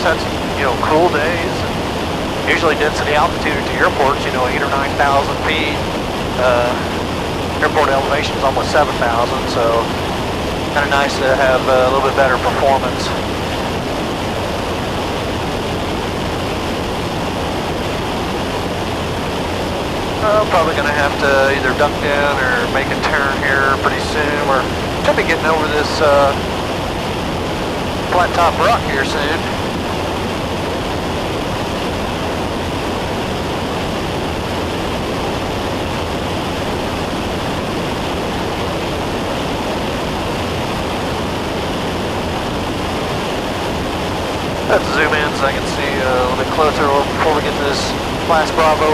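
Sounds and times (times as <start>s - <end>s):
airplane engine and propeller drone: 0.0s - 48.9s
rushing airflow: 0.0s - 48.9s
wind noise: 0.0s - 48.9s.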